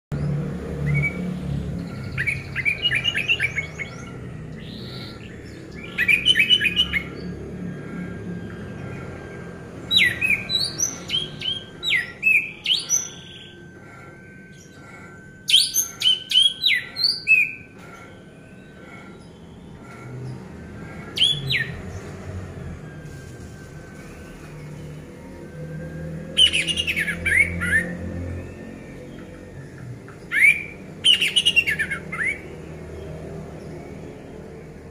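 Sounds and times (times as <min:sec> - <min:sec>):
thrush singing: 0:00.1 - 0:34.8.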